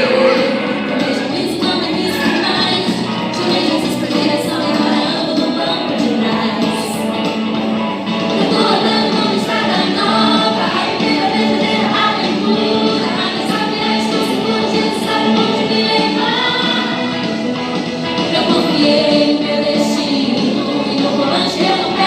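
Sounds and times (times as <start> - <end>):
worship song with sung vocals: 0.0 - 7.0, 8.4 - 17.2, 18.2 - 22.0
backing band playing: 0.0 - 22.0.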